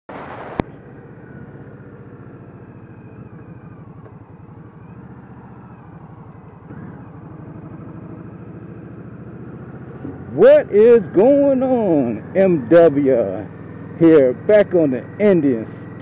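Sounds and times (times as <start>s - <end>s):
motorcycle engine running: 0.1s - 16.0s.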